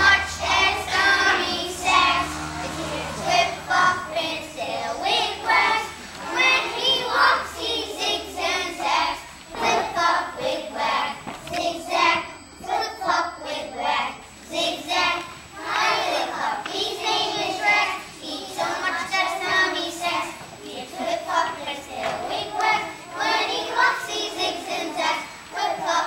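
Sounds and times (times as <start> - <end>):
children singing in unison: 0.0 - 26.0.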